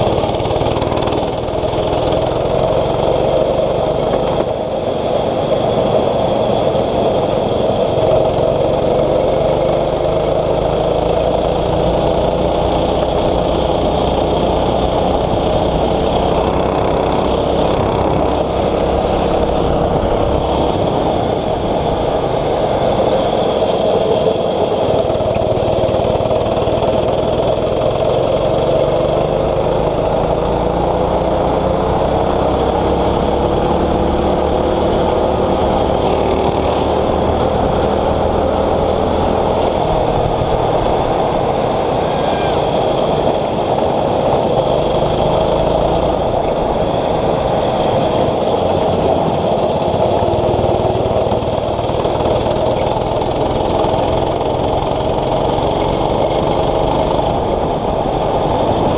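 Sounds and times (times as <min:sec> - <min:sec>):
kart engine running: 0:00.0 - 0:58.9.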